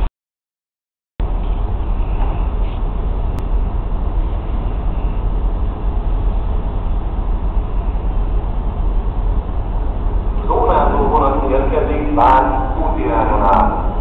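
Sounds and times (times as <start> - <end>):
trains rumbling with hiss: 1.2 - 14.0.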